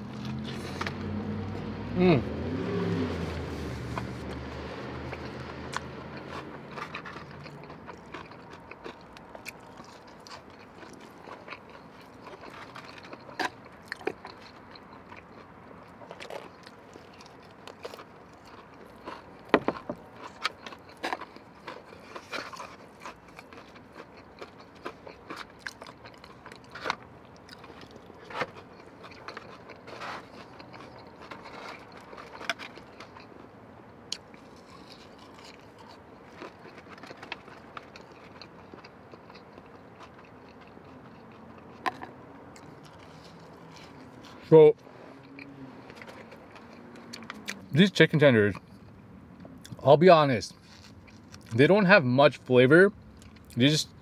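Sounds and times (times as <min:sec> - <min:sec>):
chewing and crunching food: 0:00.0 - 0:01.7, 0:02.9 - 0:54.0.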